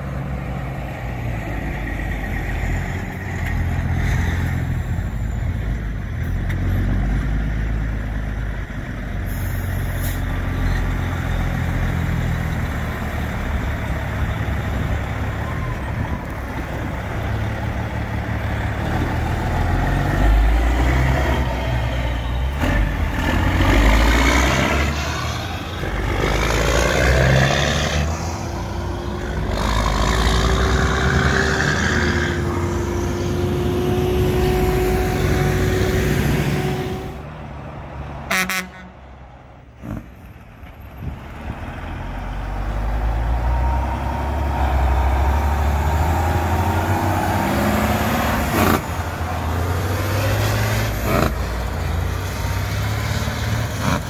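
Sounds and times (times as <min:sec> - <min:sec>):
tow truck pulling away: 0:00.0 - 0:38.4, 0:39.0 - 0:54.0
crane truck passing: 0:00.0 - 0:54.0
heavy trucks driving past: 0:00.0 - 0:54.0.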